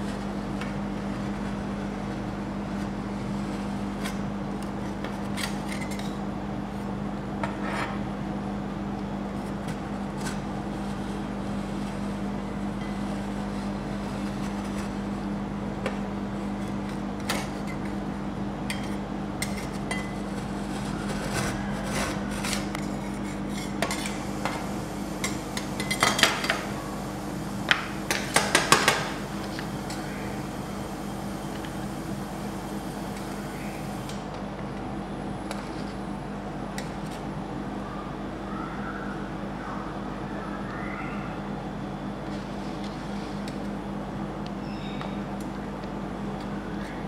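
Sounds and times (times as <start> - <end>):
refrigeration unit hum: 0.0 - 47.0.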